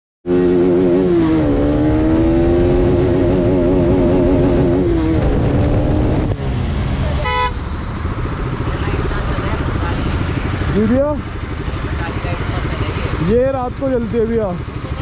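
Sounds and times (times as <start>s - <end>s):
motorcycle engine revving high: 0.3s - 15.0s.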